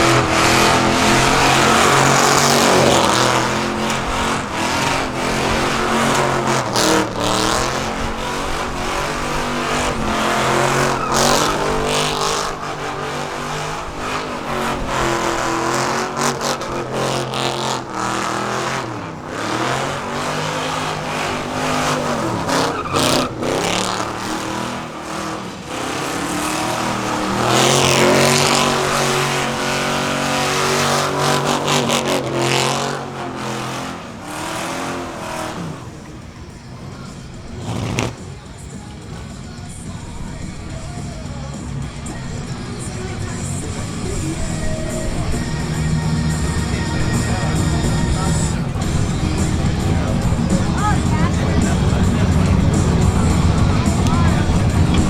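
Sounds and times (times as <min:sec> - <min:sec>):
car engine at high revs: 0:00.0 - 0:55.0
tyres spinning and squealing: 0:00.0 - 0:55.0.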